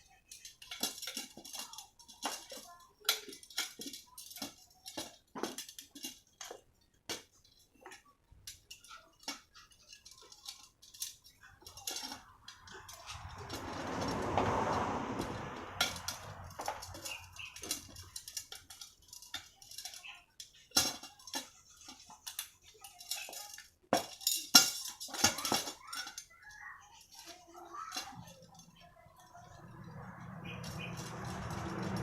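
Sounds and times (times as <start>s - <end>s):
wire spokes clinking: 0.0s - 32.0s.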